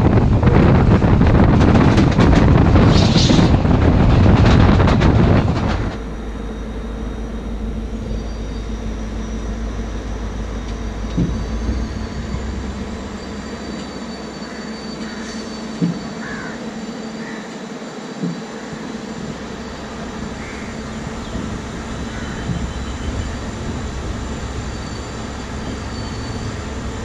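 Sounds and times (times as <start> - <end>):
steady hum with high whines: 0.0 - 27.0
train wheels rumbling and clattering: 0.0 - 27.0
high wheel squeal: 2.6 - 3.7, 5.6 - 27.0.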